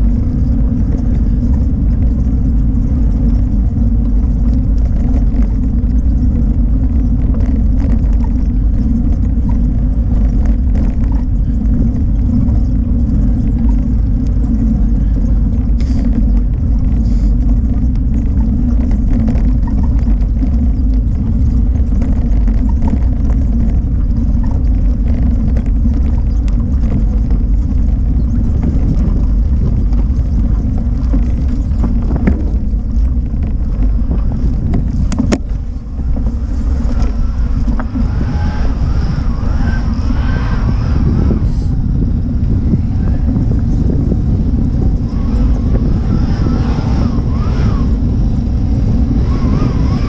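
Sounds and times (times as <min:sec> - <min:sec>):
bicycle tyres on rough asphalt: 0:00.0 - 0:50.0
wind buffeting microphone: 0:00.0 - 0:50.0.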